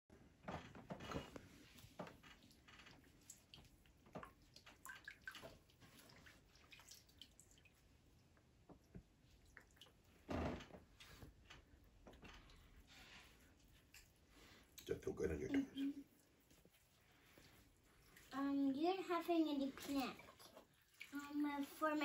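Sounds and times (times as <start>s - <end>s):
water dripping and splashing: 1.8s - 15.0s, 15.8s - 22.0s.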